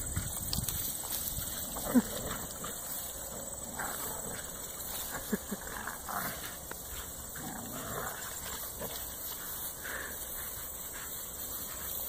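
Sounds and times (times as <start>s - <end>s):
puppies play-fighting: 0.0s - 12.0s.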